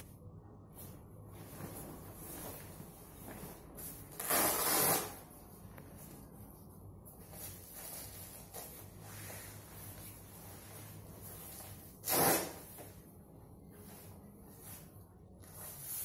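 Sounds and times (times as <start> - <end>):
fabric rustling: 0.7 - 16.0.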